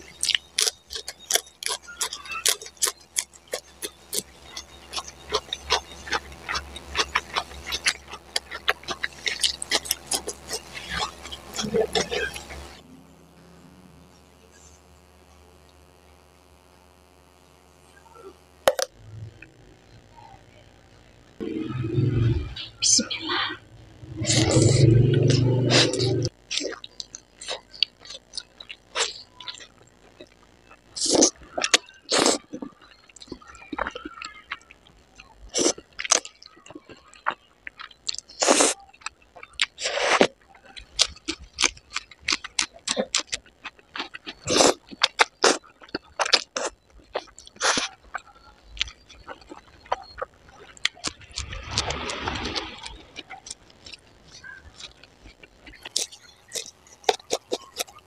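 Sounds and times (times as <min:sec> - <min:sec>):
person chewing food: 0:00.0 - 0:12.8, 0:24.0 - 0:58.0.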